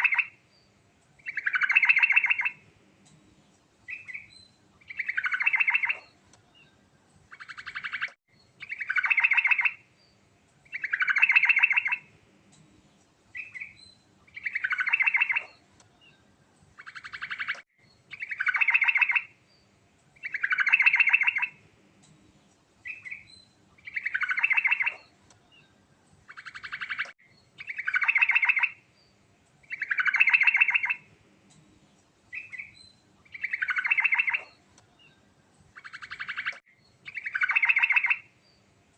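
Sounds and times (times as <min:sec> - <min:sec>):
bulbul singing with trills: 0:00.0 - 0:38.8.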